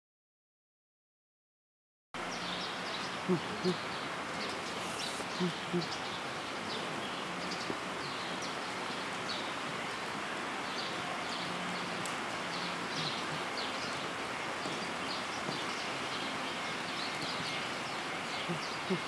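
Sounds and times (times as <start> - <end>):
steady hiss: 2.2 - 19.0.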